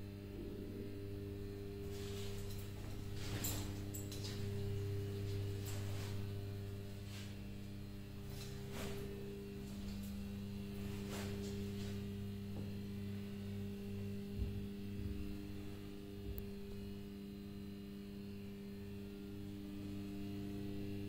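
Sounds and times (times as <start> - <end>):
elevator winch mains hum: 0.0 - 21.0.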